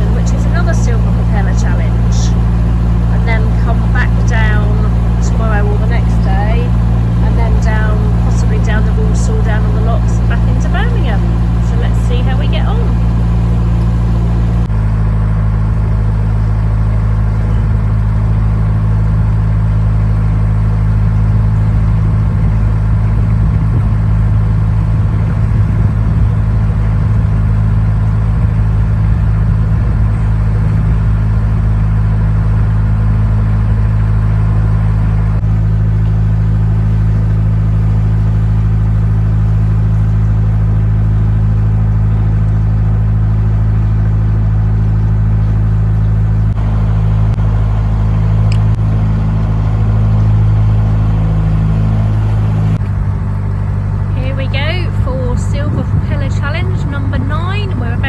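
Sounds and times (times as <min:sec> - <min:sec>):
boat diesel engine humming: 0:00.0 - 0:58.0.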